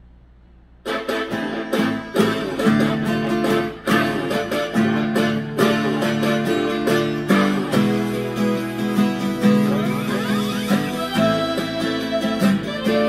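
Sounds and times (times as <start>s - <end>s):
acoustic guitar strummed in chords: 0.8s - 13.0s.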